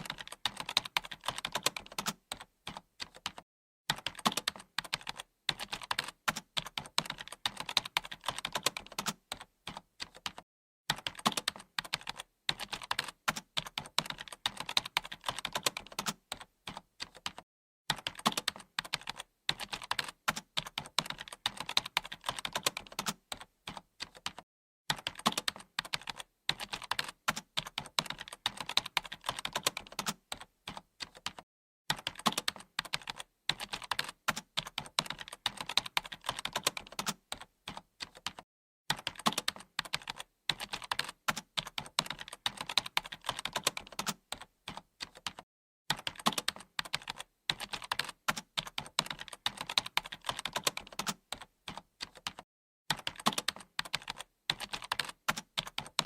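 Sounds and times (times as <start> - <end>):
computer keyboard typing: 0.0 - 56.0.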